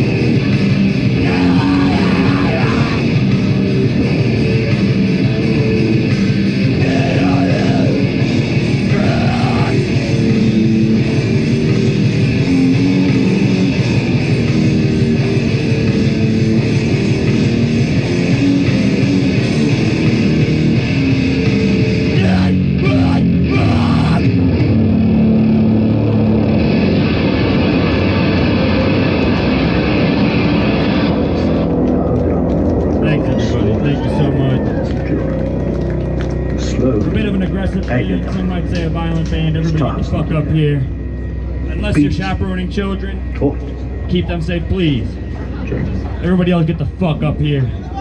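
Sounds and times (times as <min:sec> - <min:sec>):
live heavy band playing: 0:00.0 - 0:48.0.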